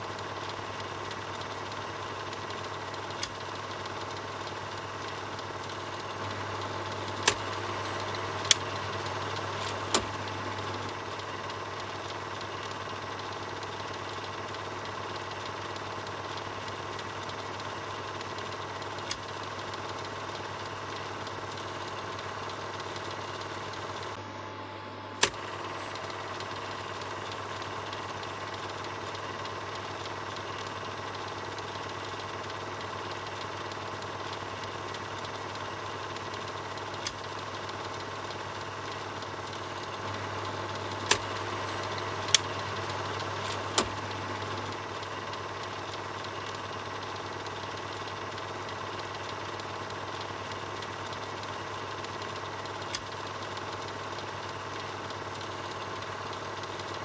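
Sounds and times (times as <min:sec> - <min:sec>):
film projector clattering: 0:00.0 - 0:24.2, 0:25.1 - 0:57.0
sharp clicks: 0:00.2 - 0:24.2, 0:25.2 - 0:57.0.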